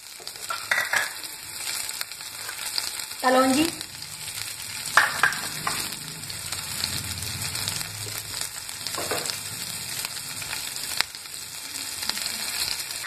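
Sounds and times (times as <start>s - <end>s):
seeds sizzling in hot oil: 0.0s - 13.0s.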